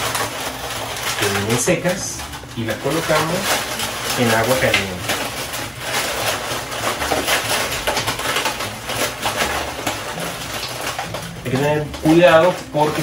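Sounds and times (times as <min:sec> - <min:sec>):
dry corn husks crackling: 0:00.0 - 0:13.0.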